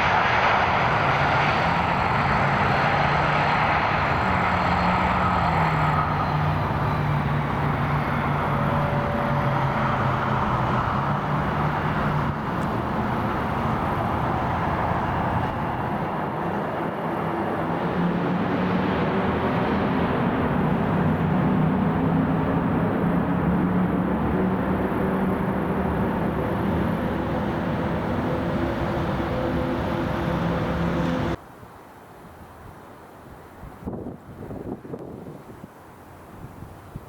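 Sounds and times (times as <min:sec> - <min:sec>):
jet engines roaring: 0:00.0 - 0:31.4.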